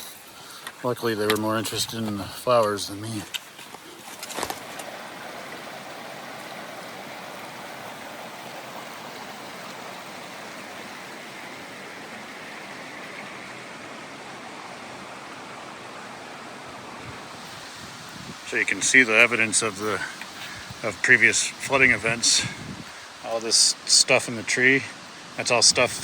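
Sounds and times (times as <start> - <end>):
shallow river flowing: 1.6 - 26.0.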